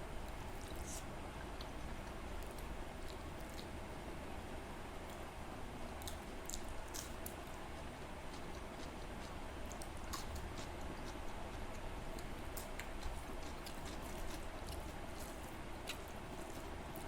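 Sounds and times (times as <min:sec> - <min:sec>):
low background hum: 0:00.0 - 0:17.0
mouth chewing food: 0:00.3 - 0:03.8, 0:06.0 - 0:17.0.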